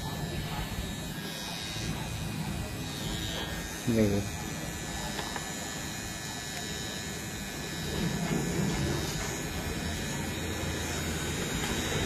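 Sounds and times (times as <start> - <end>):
beard trimmer buzzing: 0.0 - 12.0.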